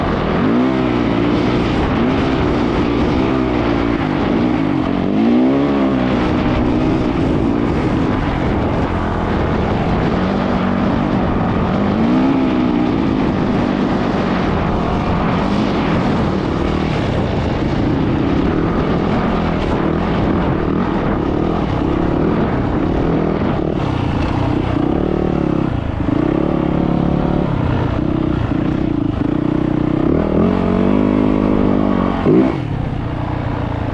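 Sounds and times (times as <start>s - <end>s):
dirt bike engine revving: 0.0s - 33.8s.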